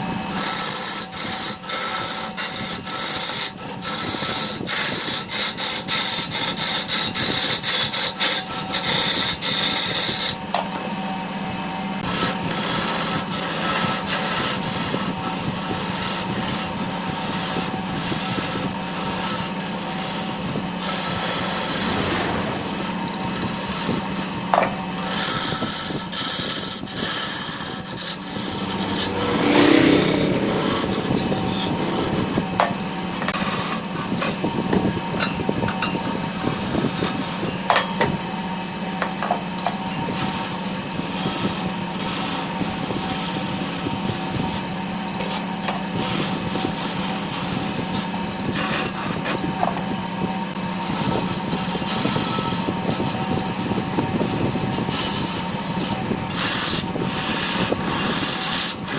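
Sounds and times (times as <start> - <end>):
turning tool rasping on wood: 0.0 - 11.3, 12.0 - 58.9
wood lathe humming: 0.0 - 58.9.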